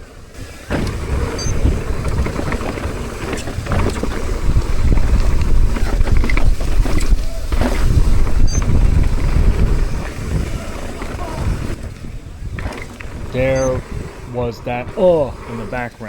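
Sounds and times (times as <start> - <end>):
mountain bike rattling on trail: 0.0 - 16.0
wind buffeting microphone: 0.0 - 16.0.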